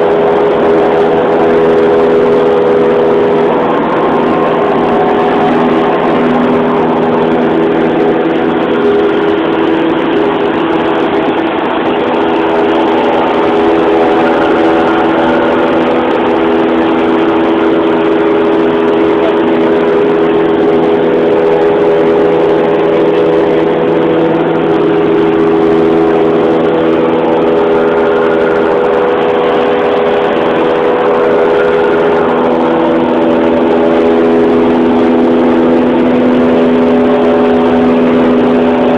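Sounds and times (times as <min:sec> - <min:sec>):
aircraft engine and propeller: 0:00.0 - 0:38.9.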